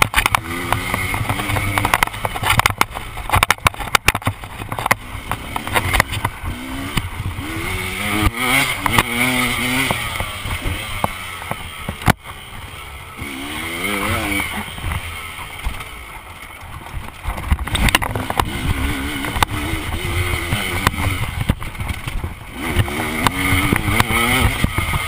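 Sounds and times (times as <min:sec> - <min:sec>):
bike knocks and rattles: 0:00.0 - 0:12.6, 0:13.2 - 0:25.0
dirt bike engine revving: 0:00.0 - 0:25.0.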